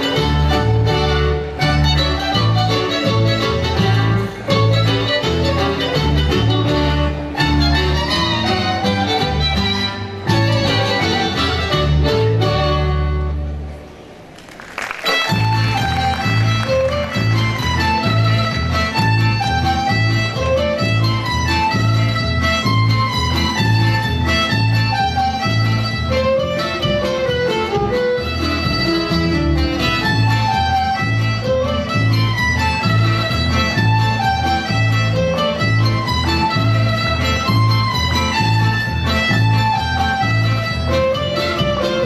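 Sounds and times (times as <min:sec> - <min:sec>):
lively folk dance music: 0:00.0 - 0:42.0.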